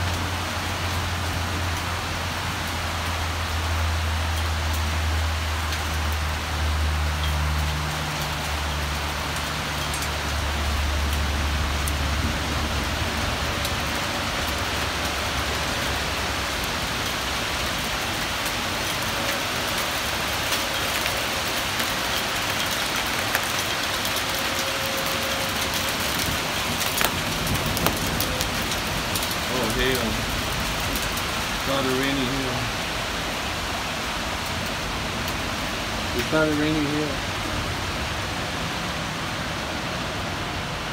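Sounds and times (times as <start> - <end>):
hail ticking on metal railing: 0.0 - 33.0
steady rain hiss: 0.0 - 40.9.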